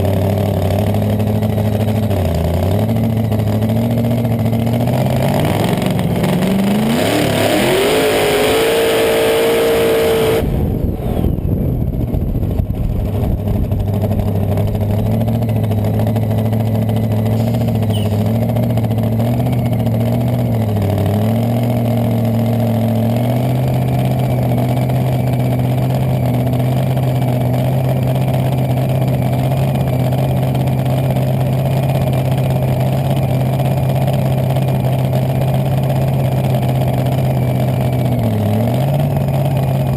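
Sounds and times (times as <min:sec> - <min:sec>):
dragster engine revving: 0:00.0 - 0:39.9
engine running at low pitch: 0:00.0 - 0:39.9.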